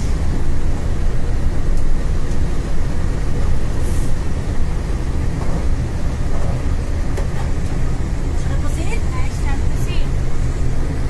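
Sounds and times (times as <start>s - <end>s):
locomotive rumble in cab: 0.0s - 11.0s.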